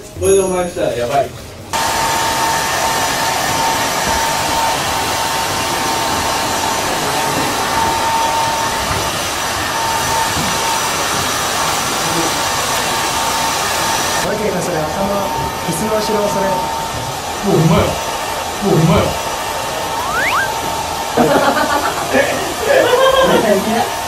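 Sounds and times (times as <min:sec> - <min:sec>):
hair dryer blowing: 0:01.7 - 0:24.0.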